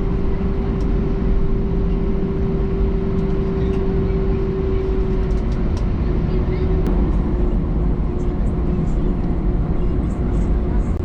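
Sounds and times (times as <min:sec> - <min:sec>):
constant cabin hum: 0:00.0 - 0:11.0
jet engines idling rumble: 0:00.0 - 0:11.0.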